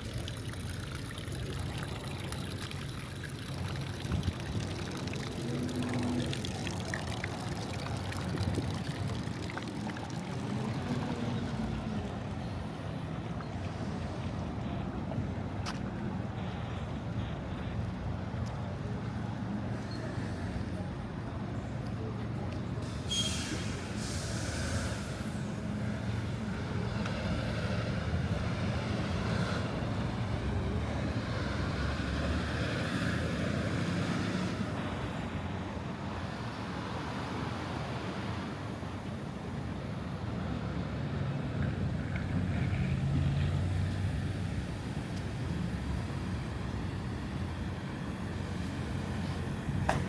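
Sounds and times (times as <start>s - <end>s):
traffic rumble: 0.0s - 50.0s
vehicles passing: 0.0s - 50.0s.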